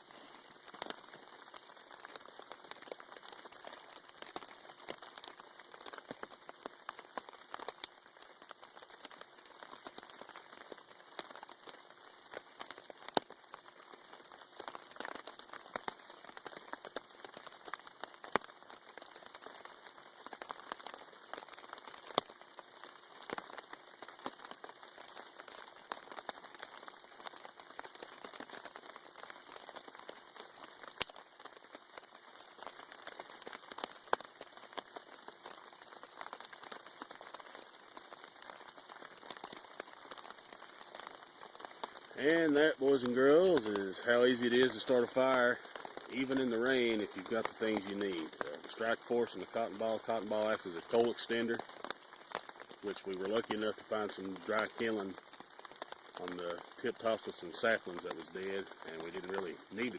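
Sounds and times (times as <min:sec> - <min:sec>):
rain pattering on a tarp: 0:00.0 - 0:59.9.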